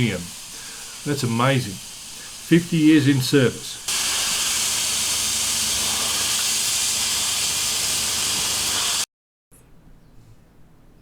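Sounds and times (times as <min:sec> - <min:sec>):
steam locomotive venting steam: 0:00.0 - 0:09.1.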